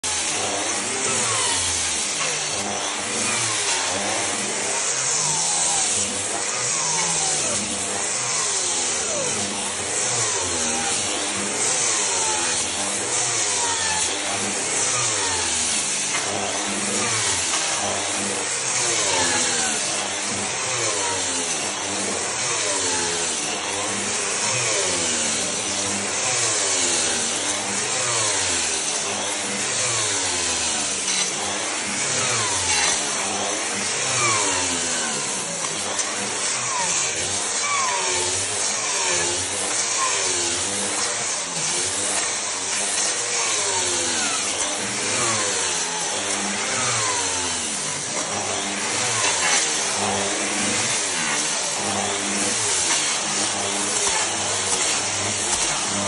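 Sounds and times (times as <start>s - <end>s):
floor grinder motor: 0.0s - 56.0s.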